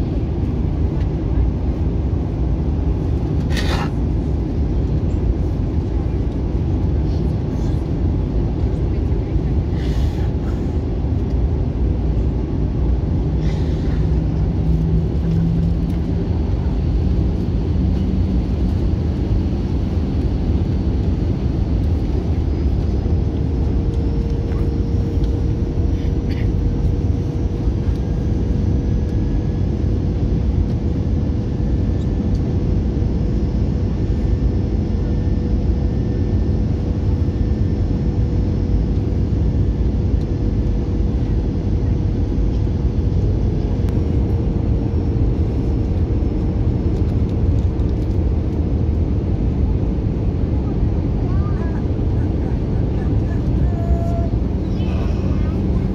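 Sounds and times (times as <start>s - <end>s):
jet engine and airflow rumble: 0.0s - 55.9s.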